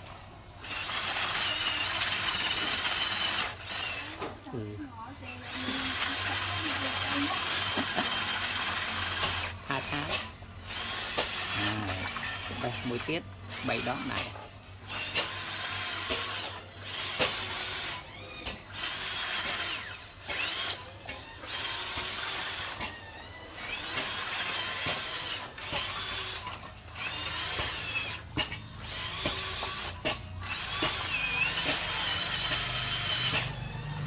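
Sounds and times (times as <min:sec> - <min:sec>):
electric motor whirring: 0:00.0 - 0:34.0.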